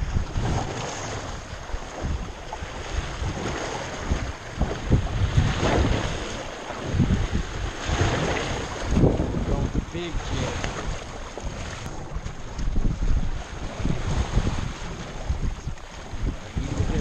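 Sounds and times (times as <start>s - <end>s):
waves splashing against boat: 0.0s - 17.0s
wind buffeting microphone: 0.0s - 17.0s.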